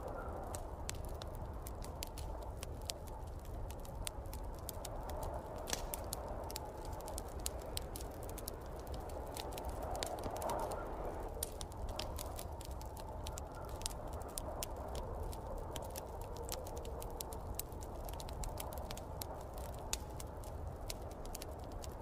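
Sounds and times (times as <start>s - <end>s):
snowstorm wind: 0.0s - 22.0s
wood fire crackling: 0.0s - 22.0s.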